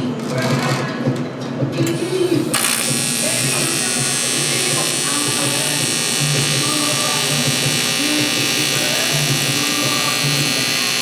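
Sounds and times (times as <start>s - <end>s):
welding arc buzzing and crackling: 1.9s - 11.0s.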